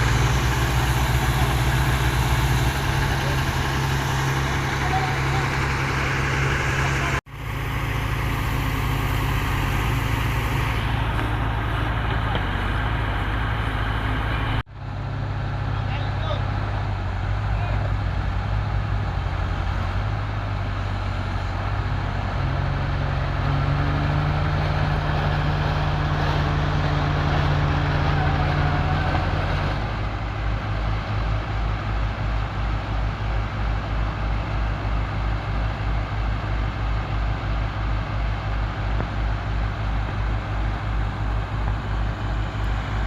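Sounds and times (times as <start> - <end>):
diesel engine running hard: 0.0 - 43.0.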